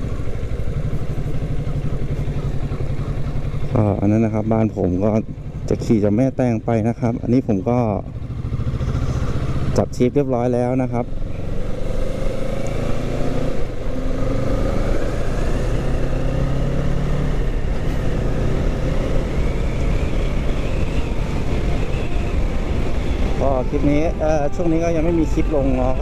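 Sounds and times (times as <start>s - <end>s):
motorcycle engine while riding: 0.0s - 26.0s.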